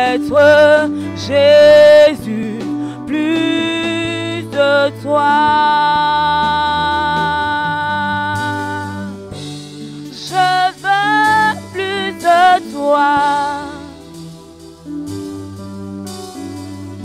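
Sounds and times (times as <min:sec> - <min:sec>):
sustained keyboard chords: 0:00.0 - 0:17.0
wordless singing with vibrato: 0:00.0 - 0:17.0.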